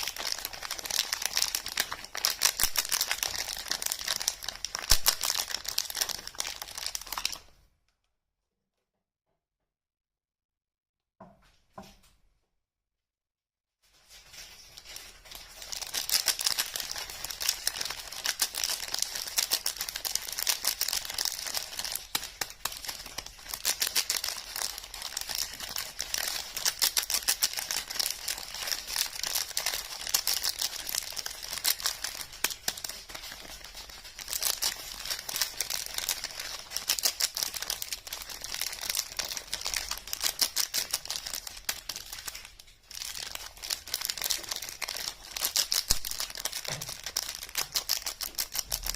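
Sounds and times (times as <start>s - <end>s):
soap wrappers crinkling and tearing: 0.0s - 7.6s, 13.9s - 48.9s.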